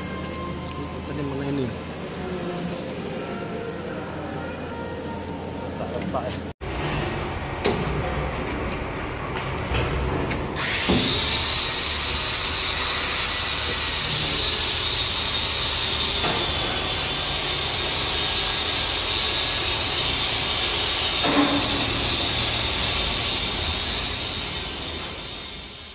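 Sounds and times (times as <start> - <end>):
machinery whining: 0.0 - 25.9.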